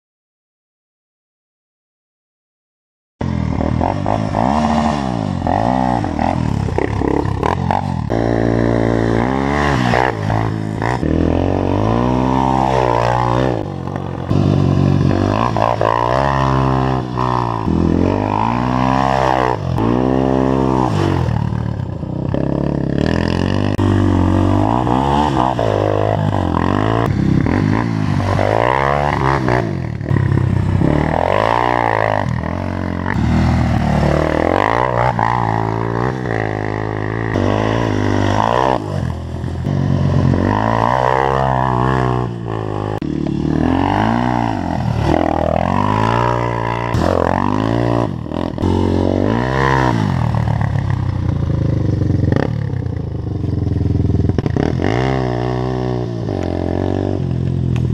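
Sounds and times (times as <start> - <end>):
quad engine revving: 3.2 - 57.9.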